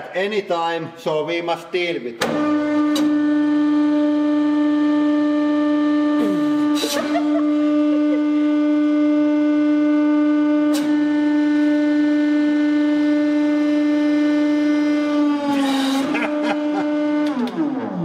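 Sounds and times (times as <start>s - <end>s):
hydraulic pump humming: 2.2s - 18.0s.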